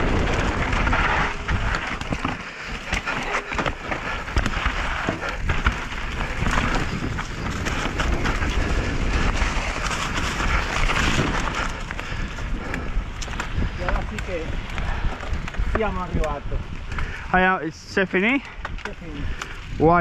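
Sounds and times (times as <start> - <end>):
tyres rolling over stones: 0.0 - 16.4
wind rumble on microphone: 0.0 - 20.0.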